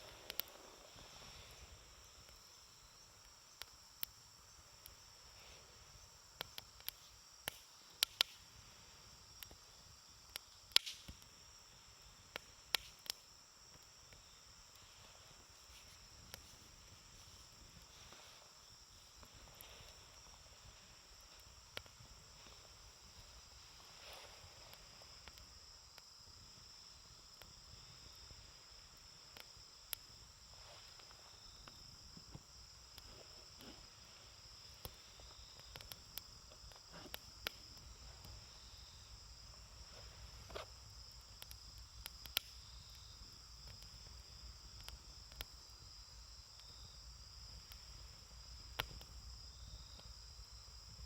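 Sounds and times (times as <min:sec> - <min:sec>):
campfire crackling and popping: 0:00.0 - 0:50.1.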